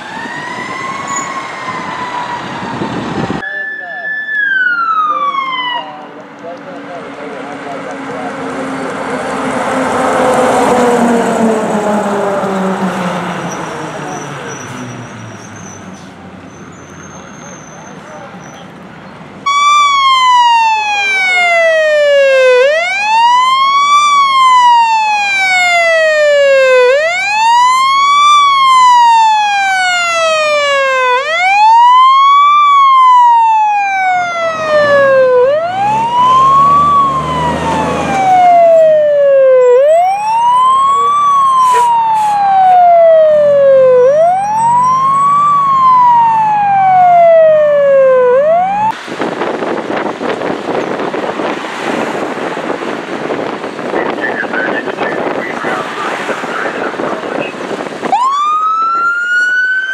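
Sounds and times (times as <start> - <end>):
fire engine siren wailing: 0.0 - 6.6, 7.6 - 14.4, 19.4 - 49.0, 52.5 - 59.9
truck engine rumbling: 4.7 - 59.9.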